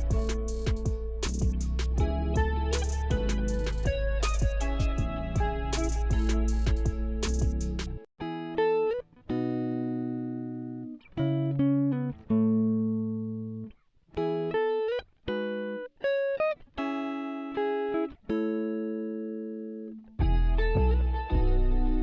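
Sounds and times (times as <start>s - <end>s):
plucked string melody: 0.0s - 15.8s, 20.0s - 22.0s.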